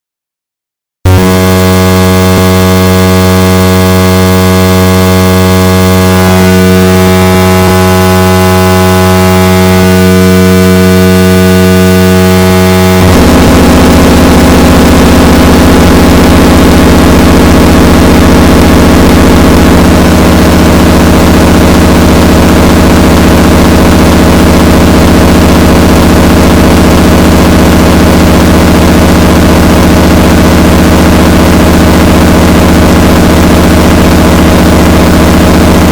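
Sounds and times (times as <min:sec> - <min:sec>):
distorted electronic noise music: 0:01.1 - 0:35.9.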